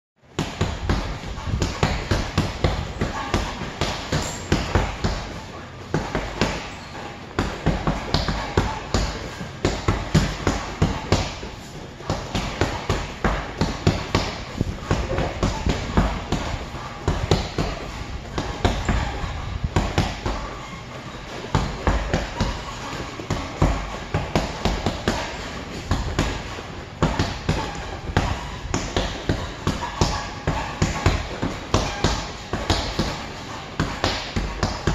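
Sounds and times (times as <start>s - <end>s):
punches thudding on punching bag: 0.3s - 34.9s.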